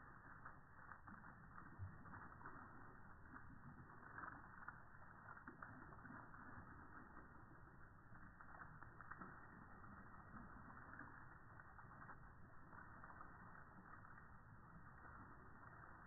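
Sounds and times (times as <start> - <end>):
low water hiss: 0.0 - 16.0
slowed water splashing: 0.0 - 16.0.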